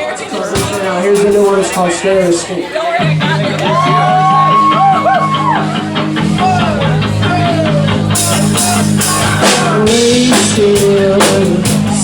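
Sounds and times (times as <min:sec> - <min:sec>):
rhythmic electric guitar: 0:00.0 - 0:12.0
drums and cymbals: 0:00.4 - 0:12.0.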